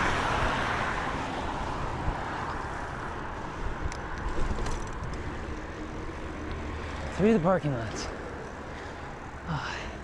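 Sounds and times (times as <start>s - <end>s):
passing car road noise: 0.0s - 10.0s.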